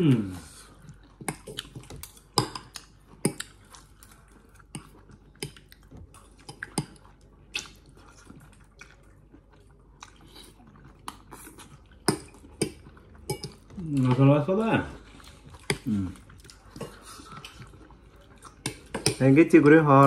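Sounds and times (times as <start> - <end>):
chewing and slurping noodles: 0.1 - 19.2.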